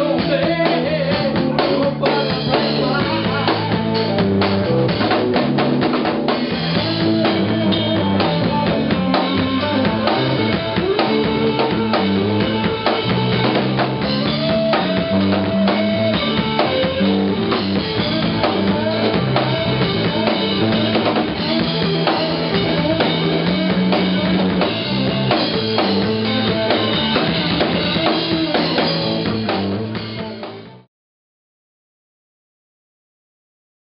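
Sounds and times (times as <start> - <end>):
drum kit beat: 0.0 - 30.9
electric guitar: 0.0 - 30.9.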